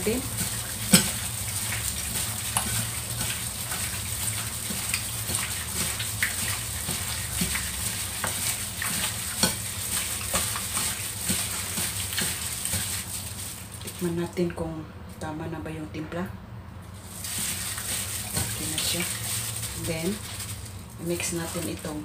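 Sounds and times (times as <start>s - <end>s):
wet rustling of meat being mixed: 0.0s - 14.4s, 16.8s - 22.0s.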